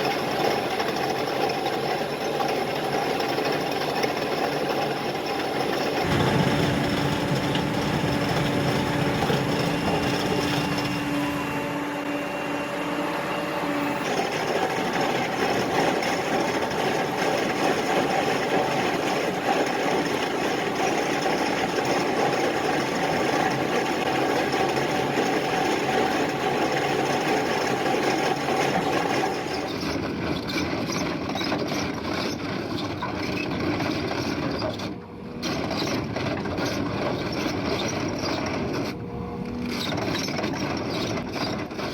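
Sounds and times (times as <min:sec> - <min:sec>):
excavator chain cutter running: 0:00.0 - 0:41.9.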